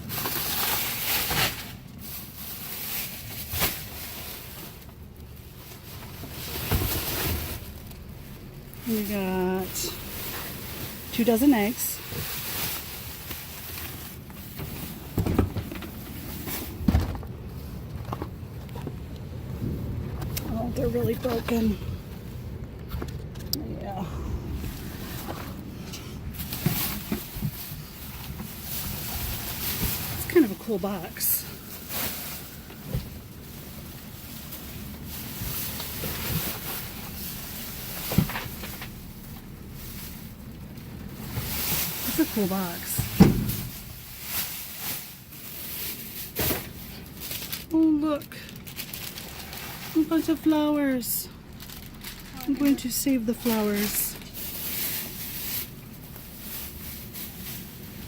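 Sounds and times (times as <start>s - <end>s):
rummaging through a dumpster: 0.0s - 58.0s
steady low rumble: 0.0s - 58.0s.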